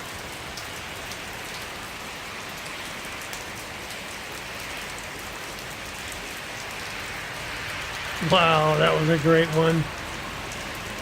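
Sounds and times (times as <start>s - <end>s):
heavy rain pouring: 0.0s - 11.0s
raindrops ticking: 0.0s - 11.0s.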